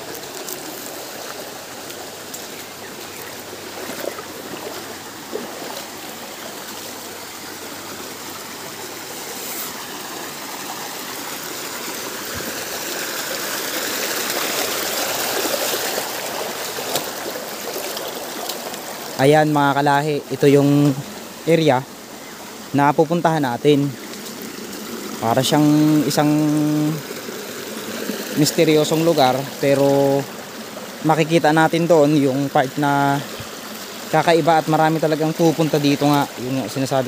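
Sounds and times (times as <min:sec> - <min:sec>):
stream water over rocks: 0:00.0 - 0:37.0.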